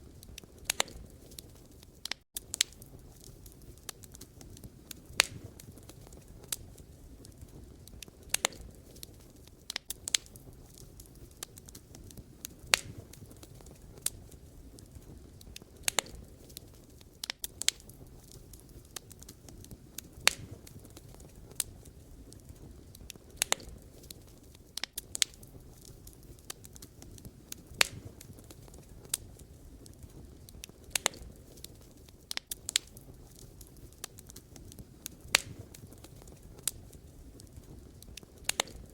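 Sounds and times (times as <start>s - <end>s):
logs crackling and popping: 0.0s - 38.9s
wood fire burning: 0.0s - 38.9s.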